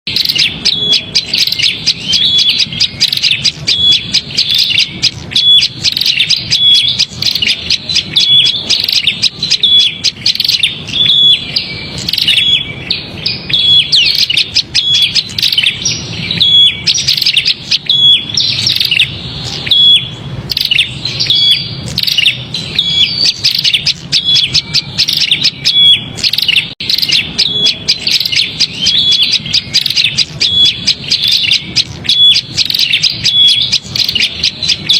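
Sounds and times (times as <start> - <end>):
bird chattering call: 0.1 - 34.9.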